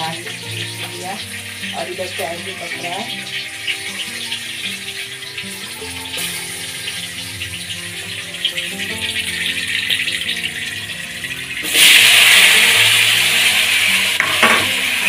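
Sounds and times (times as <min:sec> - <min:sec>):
background music: 0:00.0 - 0:15.0
potatoes sizzling in hot oil: 0:00.0 - 0:15.0.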